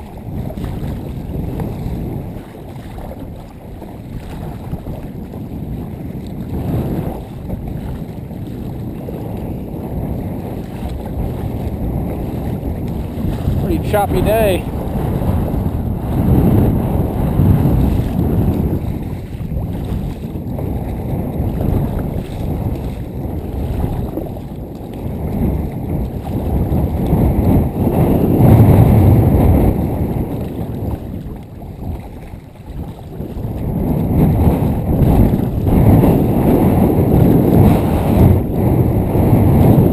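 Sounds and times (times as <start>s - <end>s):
waves slapping kayak hull: 0.0s - 39.9s
wind buffeting microphone: 0.0s - 39.9s.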